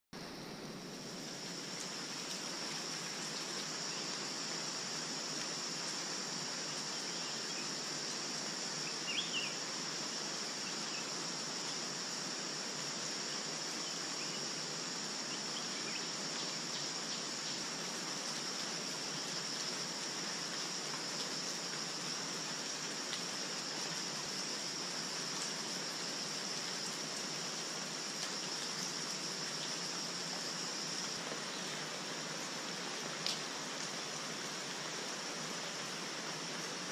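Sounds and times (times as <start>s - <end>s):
hiss like running water: 0.2s - 36.9s
high-pitched insect chorus: 0.3s - 36.9s.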